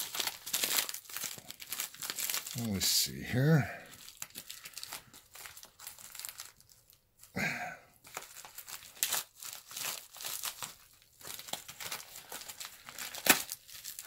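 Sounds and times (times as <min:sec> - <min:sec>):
paper crinkling and rustling: 0:00.0 - 0:03.2, 0:03.8 - 0:07.3, 0:08.0 - 0:14.0.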